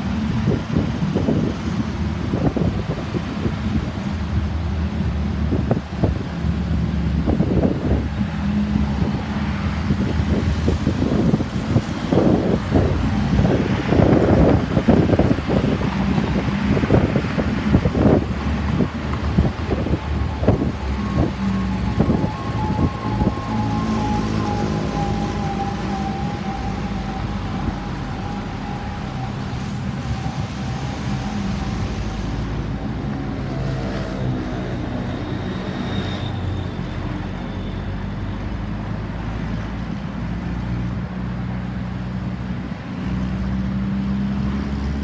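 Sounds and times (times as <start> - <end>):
road traffic engine hum: 0.0 - 45.0
ambulance siren: 0.1 - 40.0.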